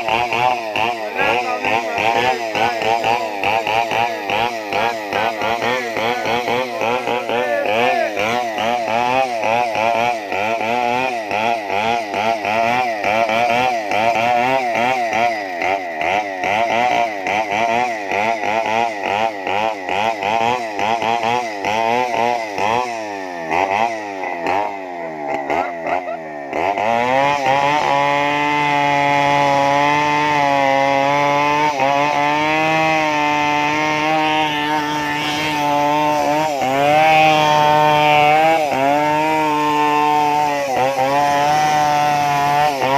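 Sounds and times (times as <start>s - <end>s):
chainsaw engine surging: 0.0s - 42.9s.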